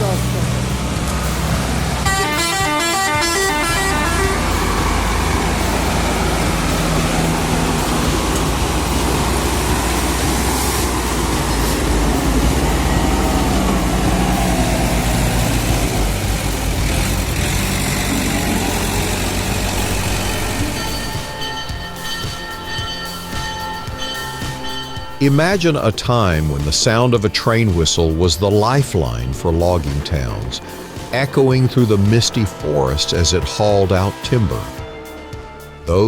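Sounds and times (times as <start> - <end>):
mechanical and road noise: 0.0 - 36.0
truck engines under load: 0.0 - 36.0.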